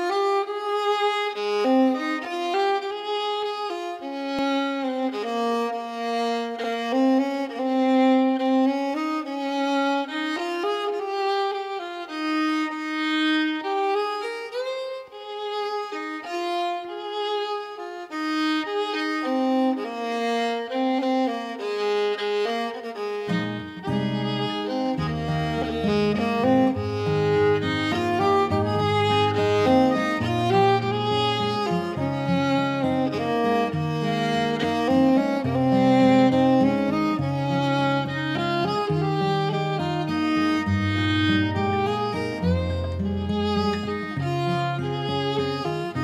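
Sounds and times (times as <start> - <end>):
bowed violin melody: 0.0 - 46.0.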